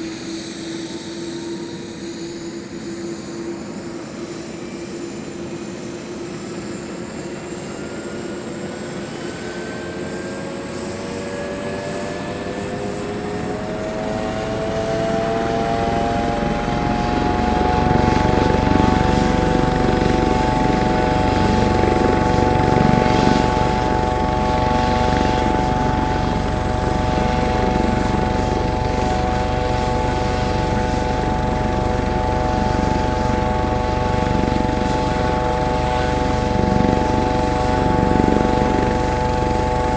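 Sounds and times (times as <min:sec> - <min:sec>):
helicopter engine whine: 0:00.0 - 0:39.9
helicopter rotor rumble: 0:00.0 - 0:39.9.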